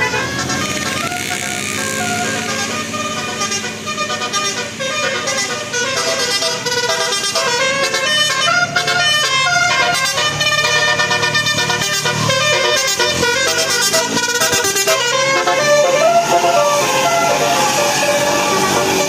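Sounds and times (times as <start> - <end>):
musical bus horn melody: 0.0 - 19.0.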